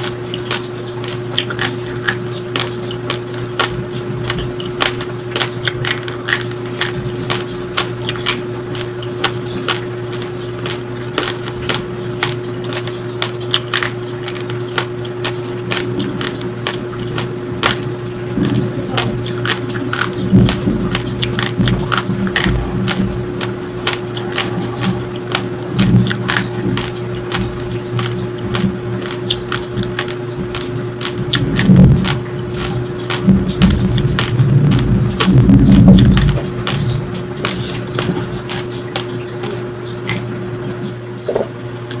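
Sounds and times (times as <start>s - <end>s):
crunching of chewed rice grains: 0.0s - 42.0s
low hum: 0.0s - 42.0s.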